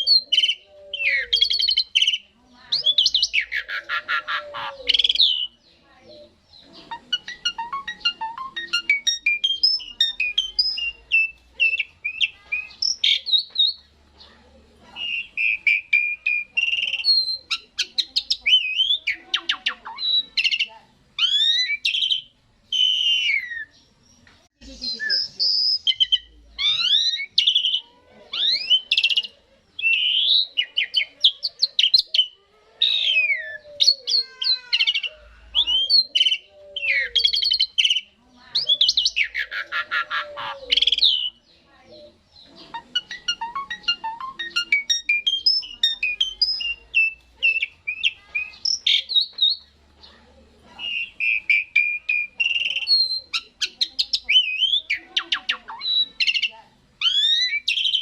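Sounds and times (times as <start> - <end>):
starling singing: 0.0 - 58.0.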